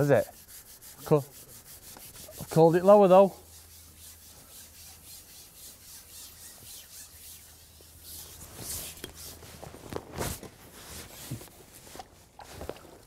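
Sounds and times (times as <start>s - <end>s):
fishing pole rubbing: 0.0s - 11.8s.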